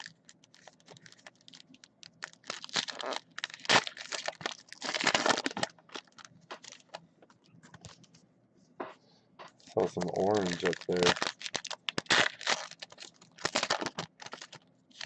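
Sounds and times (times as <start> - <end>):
foil wrappers crinkling and tearing: 0.0 - 7.0, 9.7 - 15.0.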